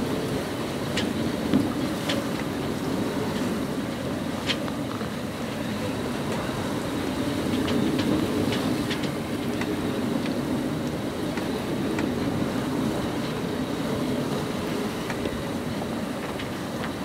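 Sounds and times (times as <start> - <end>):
waves slapping on hull: 0.0 - 17.0
wind and sea rushing: 0.0 - 17.0.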